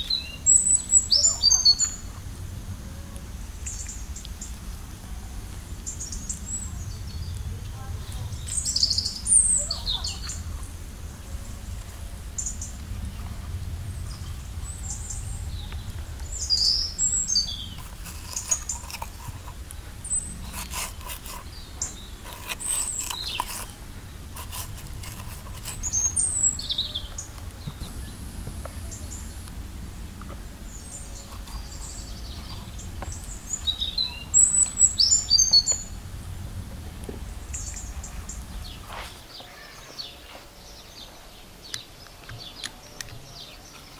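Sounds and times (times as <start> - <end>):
low background rumble: 0.0 - 39.4
small birds chirping: 0.0 - 43.9.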